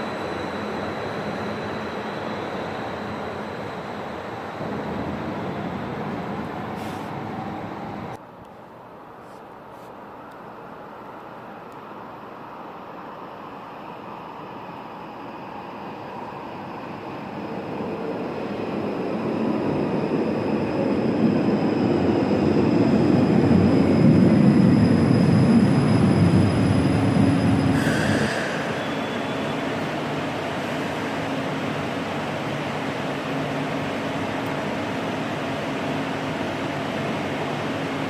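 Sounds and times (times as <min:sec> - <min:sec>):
faint high whine: 0:00.0 - 0:08.2, 0:10.1 - 0:38.0
train rumbling on tracks: 0:00.0 - 0:08.2, 0:12.1 - 0:38.0.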